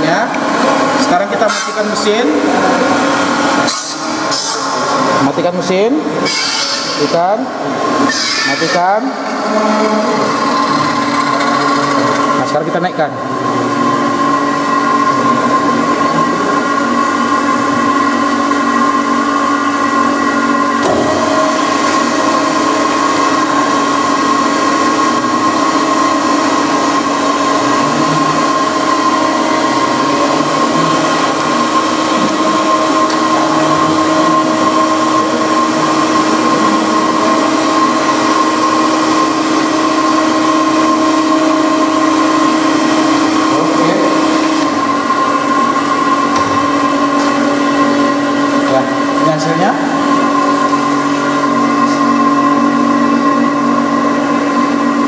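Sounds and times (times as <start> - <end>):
grinding machine motor whine: 0.0 - 55.0.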